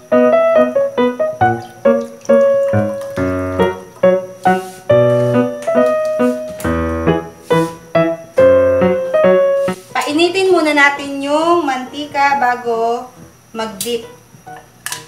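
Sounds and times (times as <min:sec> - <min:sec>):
piano music: 0:00.0 - 0:13.4, 0:14.0 - 0:15.0.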